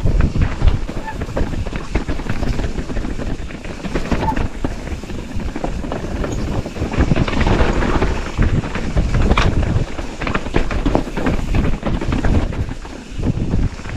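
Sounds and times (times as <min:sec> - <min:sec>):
bike rattles and knocks: 0:00.0 - 0:13.9
low rumble of bike riding: 0:00.0 - 0:13.9
wind buffeting microphone: 0:00.0 - 0:13.9.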